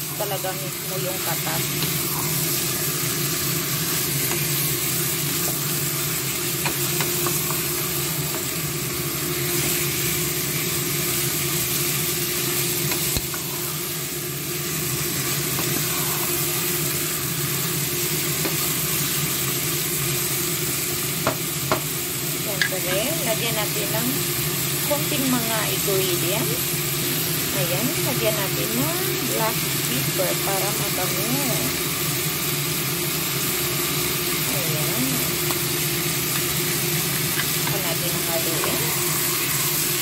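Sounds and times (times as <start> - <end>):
chicken sizzling in a pot: 0.0 - 40.0.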